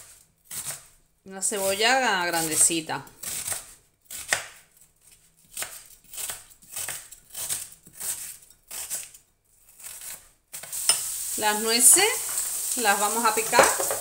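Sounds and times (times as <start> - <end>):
knife slicing onion on cutting board: 0.0 - 1.0, 2.4 - 14.0.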